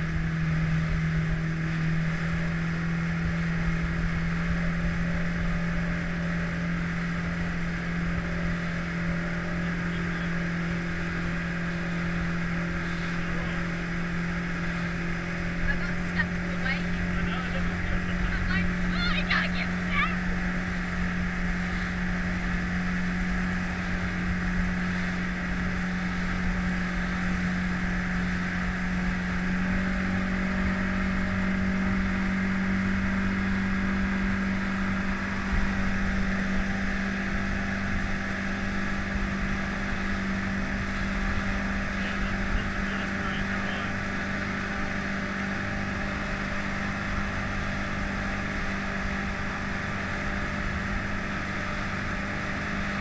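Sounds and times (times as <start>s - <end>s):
outboard motor running: 0.0s - 53.0s
rush of boat wake: 0.0s - 53.0s.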